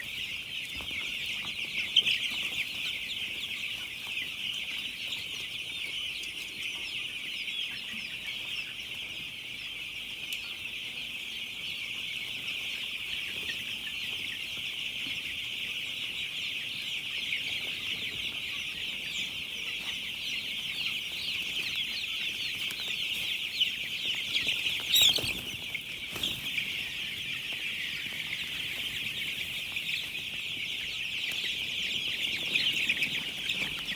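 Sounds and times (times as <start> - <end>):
chickens cheeping and chirping: 0.0 - 33.9.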